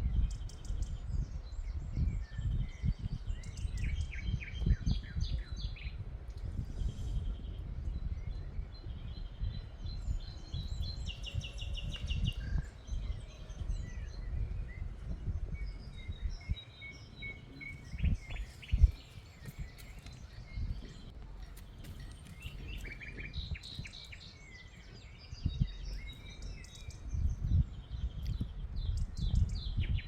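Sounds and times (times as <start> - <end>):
birds singing and chirping: 0.0 - 30.0.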